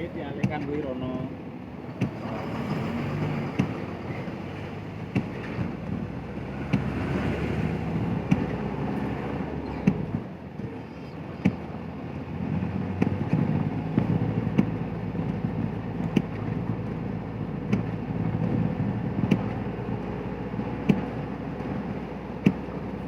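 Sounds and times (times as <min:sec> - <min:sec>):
vehicle rumble: 0:00.0 - 0:23.0.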